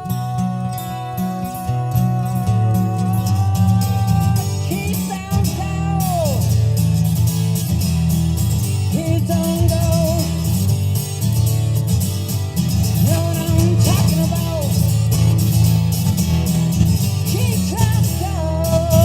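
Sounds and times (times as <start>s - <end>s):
rock song over car speakers: 0.0s - 19.0s.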